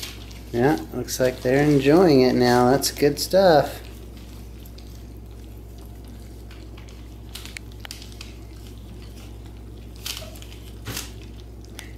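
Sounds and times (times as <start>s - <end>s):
puppies chewing wet food: 0.0s - 11.9s
steady low hum: 0.0s - 11.9s.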